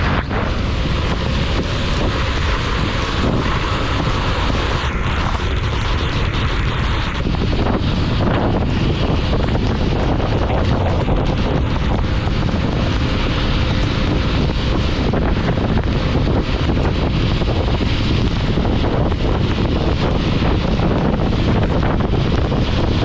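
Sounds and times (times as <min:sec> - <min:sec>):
rain hissing: 0:00.0 - 0:23.0
road noise: 0:00.0 - 0:23.0
wind noise on microphone: 0:00.0 - 0:23.0.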